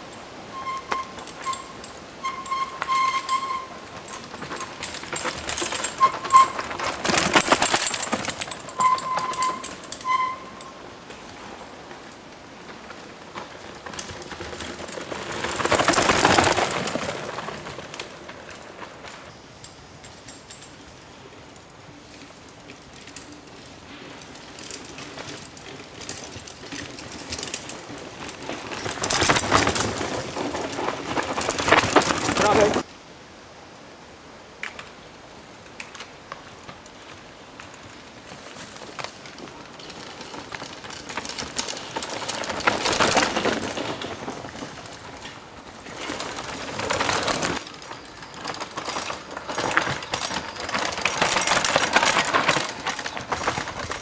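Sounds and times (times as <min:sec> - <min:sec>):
bikes clicking and rattling: 0:00.0 - 0:32.9, 0:34.6 - 0:54.0
tyres rustling on dirt: 0:00.0 - 0:32.9, 0:34.9 - 0:54.0.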